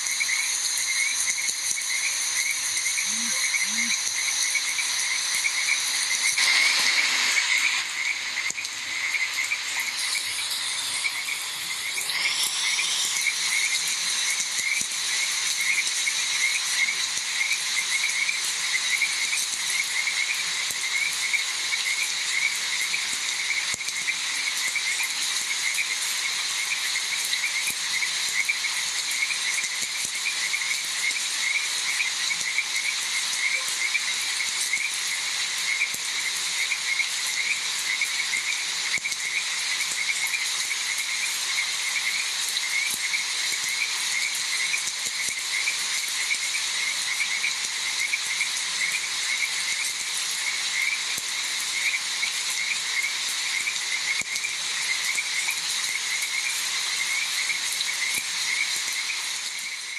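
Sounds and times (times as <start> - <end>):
frogs chirping: 0.0 - 59.9
rain falling: 0.0 - 59.9.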